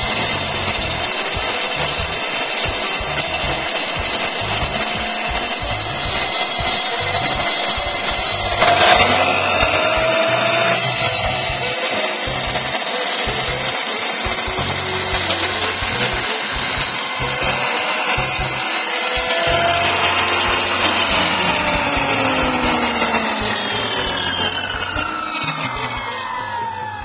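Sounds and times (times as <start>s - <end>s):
music with rhythmic beat: 0.0s - 27.0s
wet tile saw running: 0.0s - 27.0s.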